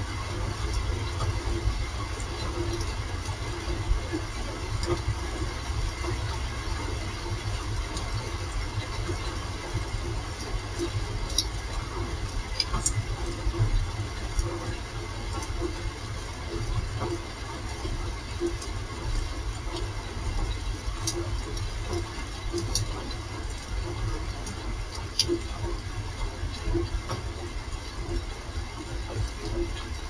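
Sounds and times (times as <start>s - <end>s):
rain falling: 0.0s - 30.0s
sharp drip ticks: 0.1s - 30.0s.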